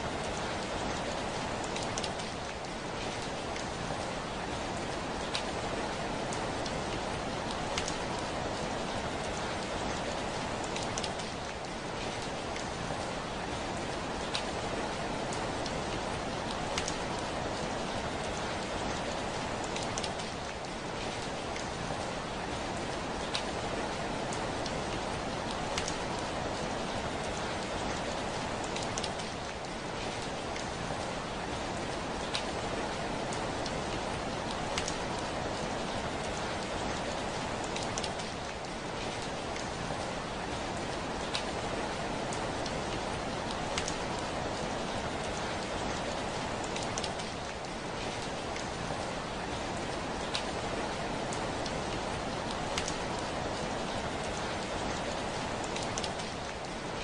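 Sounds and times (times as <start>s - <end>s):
heavy rain on a window: 0.0s - 57.0s.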